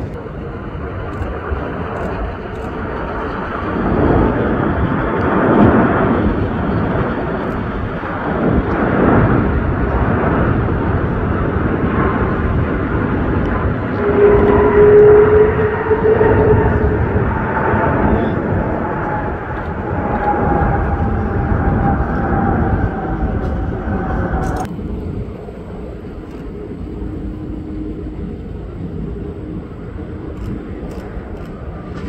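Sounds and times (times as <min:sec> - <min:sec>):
jet engine whine: 0:00.0 - 0:32.0
jet engines roaring: 0:00.0 - 0:32.0.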